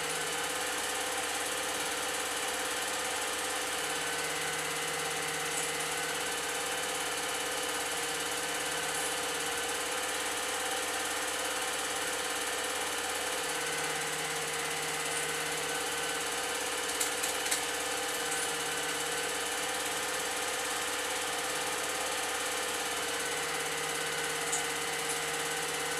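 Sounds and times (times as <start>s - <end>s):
film projector running: 0.0s - 25.9s.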